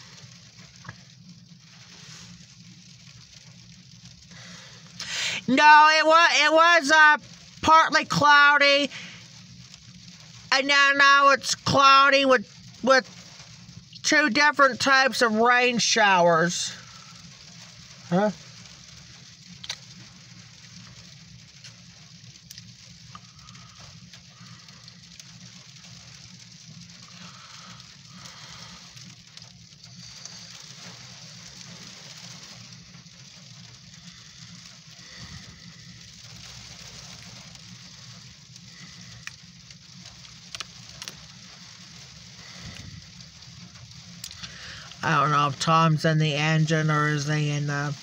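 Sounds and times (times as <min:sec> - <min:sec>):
low steady hum: 0:00.0 - 0:48.0
rain pattering on car roof: 0:00.0 - 0:48.0.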